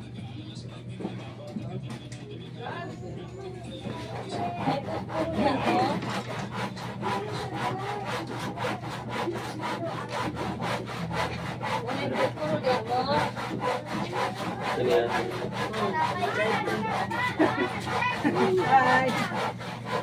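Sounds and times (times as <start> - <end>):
hand saw cutting wood: 3.8 - 20.0.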